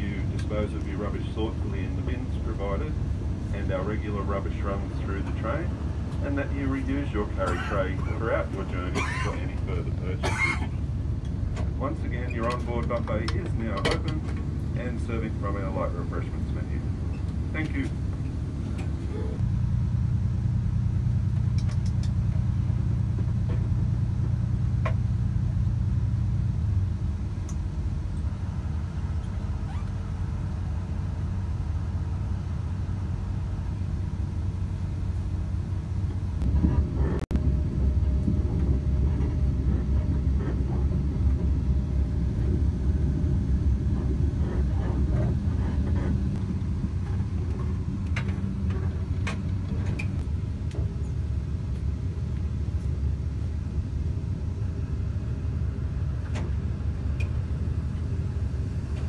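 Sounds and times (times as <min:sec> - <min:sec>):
diesel railcar rumbling: 0:00.0 - 0:59.0.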